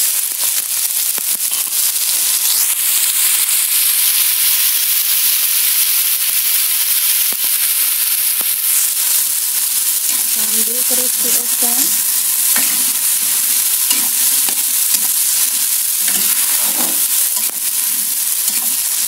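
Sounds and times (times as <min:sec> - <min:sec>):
water sizzling in hot oil: 0:00.0 - 0:19.0
high hiss of steam: 0:01.3 - 0:19.0.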